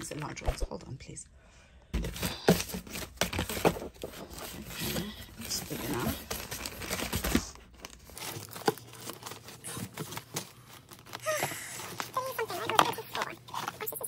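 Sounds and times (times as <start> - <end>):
plastic and paper crinkling: 2.0 - 14.0.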